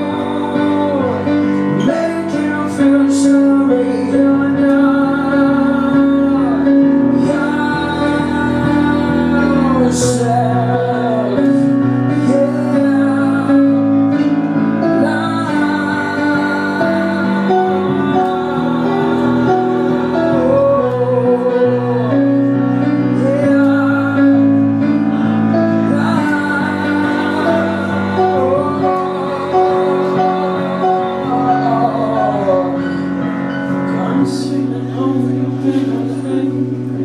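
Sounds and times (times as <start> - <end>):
sliding lead melody: 0.0 - 37.0.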